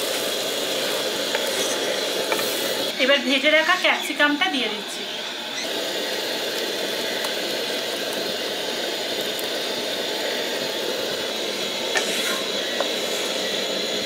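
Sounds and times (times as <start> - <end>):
gravy boiling in a pan: 0.0 - 4.0, 4.9 - 14.0.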